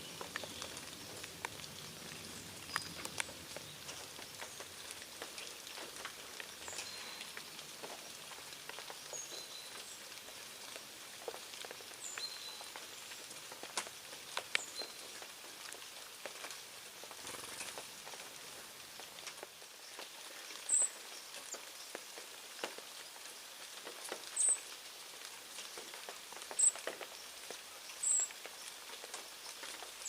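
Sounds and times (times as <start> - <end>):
small birds chirping: 0.0 - 15.8, 16.9 - 24.9, 25.8 - 30.0
soft hiss: 0.0 - 30.0.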